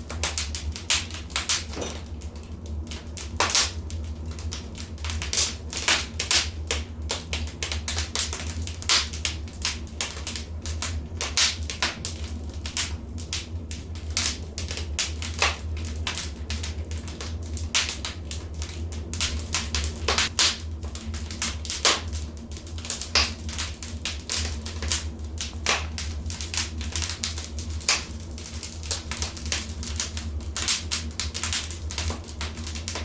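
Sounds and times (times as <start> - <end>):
low fire rumble: 0.0 - 33.0
wood fire crackling and popping: 0.0 - 33.0.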